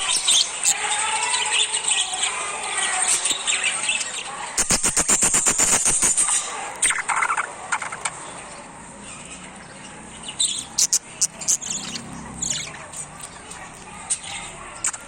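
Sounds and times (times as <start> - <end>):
baby parrots chirping: 0.0 - 15.0.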